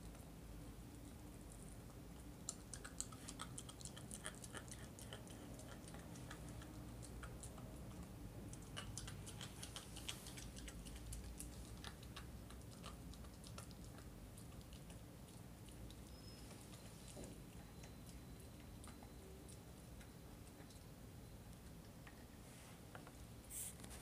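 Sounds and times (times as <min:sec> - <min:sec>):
puppy gnawing on bone: 0:00.0 - 0:23.1.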